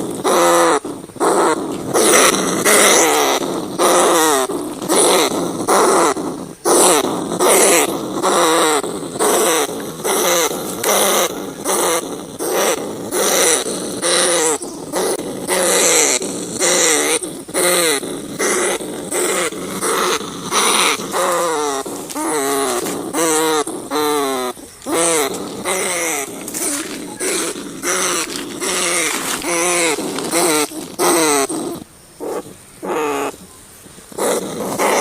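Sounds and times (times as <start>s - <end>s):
rat crying: 0.0s - 33.4s, 34.1s - 35.0s.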